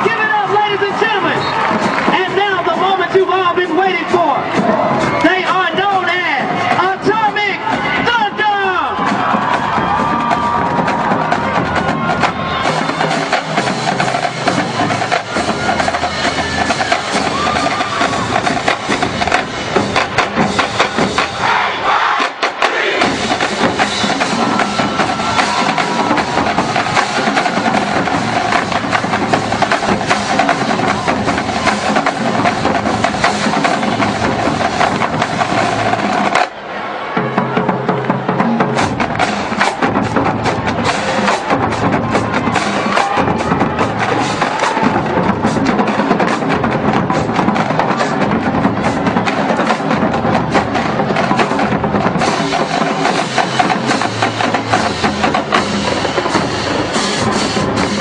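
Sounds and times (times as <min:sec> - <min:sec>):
marching drumline cadence: 0:00.0 - 0:58.0.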